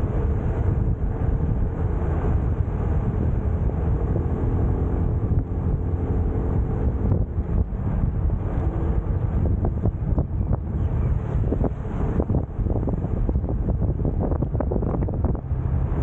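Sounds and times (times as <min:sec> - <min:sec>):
motorcycle engine rumble: 0:00.0 - 0:16.0
wind rushing over microphone: 0:00.0 - 0:16.0.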